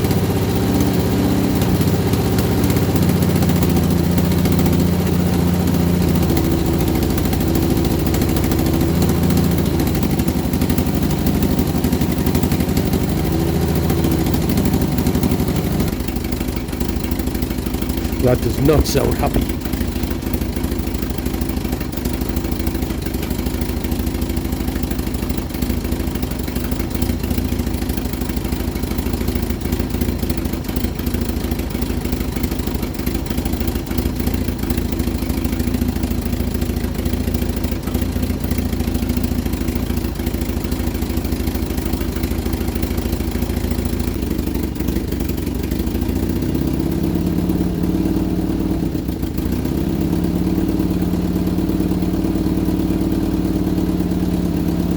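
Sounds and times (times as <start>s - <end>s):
car engine idling with clatter: 0.0s - 54.9s.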